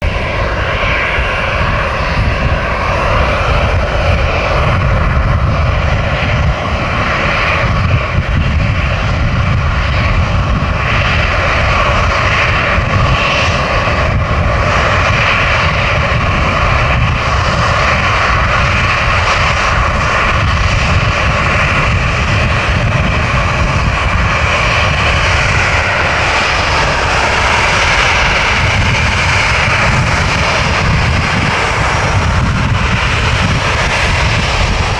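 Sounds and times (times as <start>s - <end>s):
airplane engines at take-off: 0.0s - 34.9s.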